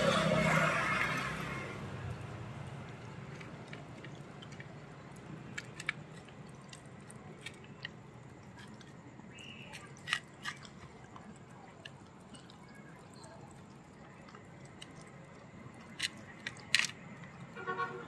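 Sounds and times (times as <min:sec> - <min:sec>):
dog chewing: 0:02.1 - 0:17.5.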